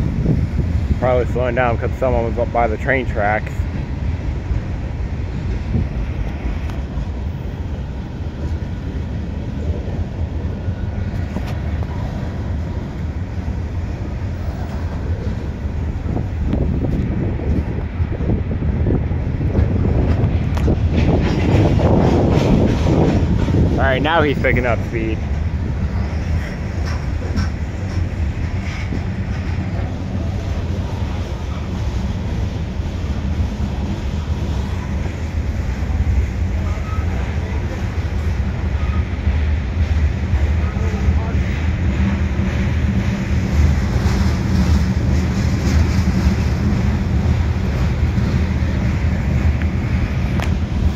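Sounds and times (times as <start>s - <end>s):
freight train wheels rumbling: 0.0s - 50.9s.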